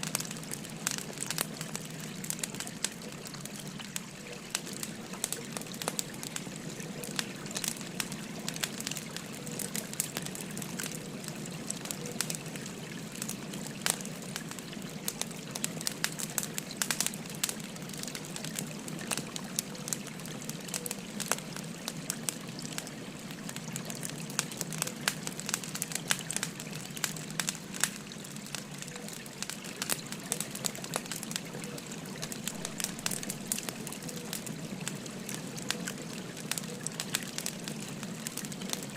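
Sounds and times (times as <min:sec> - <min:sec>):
babbling stream: 0:00.0 - 0:38.9
firewood crackling and popping: 0:00.0 - 0:38.9.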